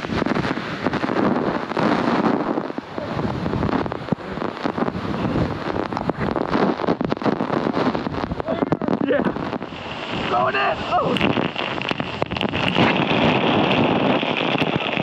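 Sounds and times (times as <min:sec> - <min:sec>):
waterfall rushing: 0:00.0 - 0:15.0
wind hitting microphone: 0:00.0 - 0:15.0.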